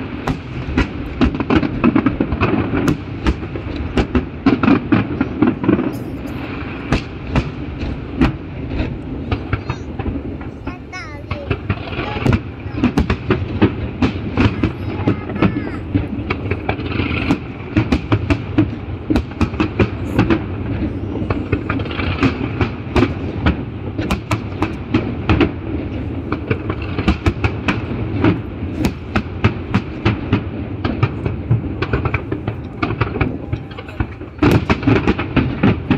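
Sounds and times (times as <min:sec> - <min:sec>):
fireworks popping and crackling: 0:00.0 - 0:35.9.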